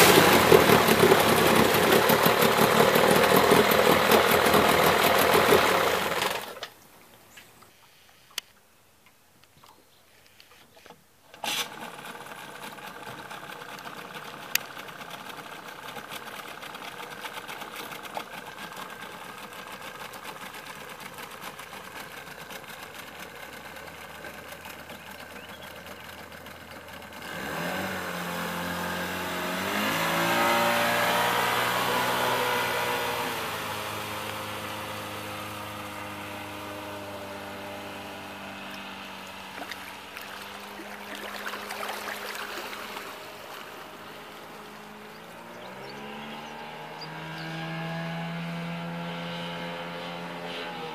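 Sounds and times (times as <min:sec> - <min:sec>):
outboard motor running: 0:00.0 - 0:08.6, 0:09.5 - 0:50.9.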